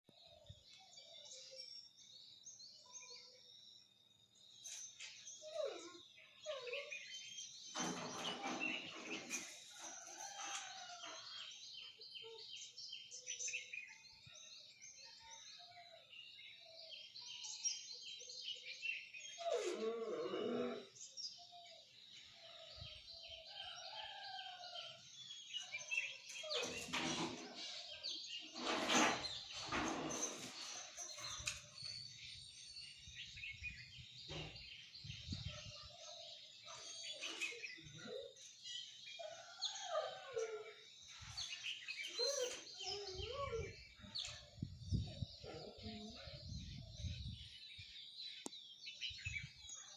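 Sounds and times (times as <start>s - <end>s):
small birds chirping: 0.1s - 49.9s.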